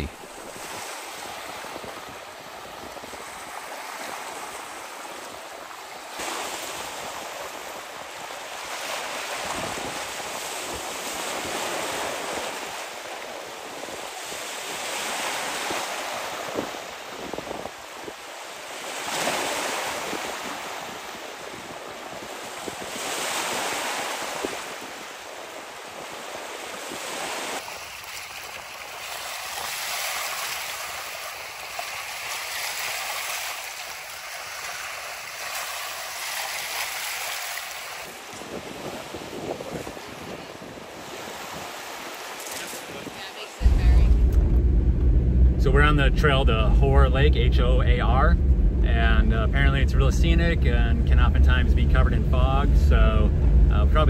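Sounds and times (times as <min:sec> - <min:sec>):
waves washing ashore: 0:00.0 - 0:54.0
wind: 0:00.0 - 0:54.0.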